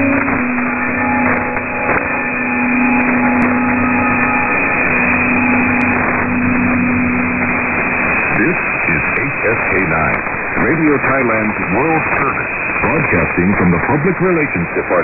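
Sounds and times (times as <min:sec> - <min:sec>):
radio static hiss: 0:00.0 - 0:15.0
steady low tone: 0:00.0 - 0:15.0.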